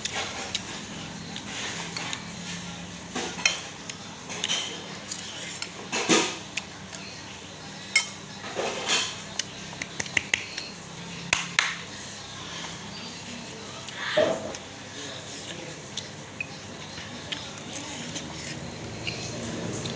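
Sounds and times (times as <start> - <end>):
utensils clinking against a bowl: 0.0 - 7.2, 7.8 - 10.7, 13.8 - 19.9.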